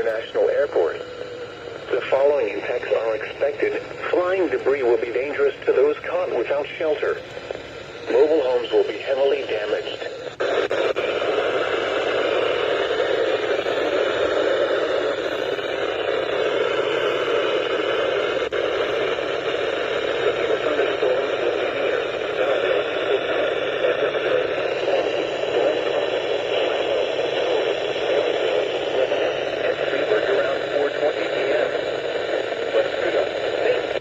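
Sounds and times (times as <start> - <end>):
radio static hiss: 0.0 - 34.0.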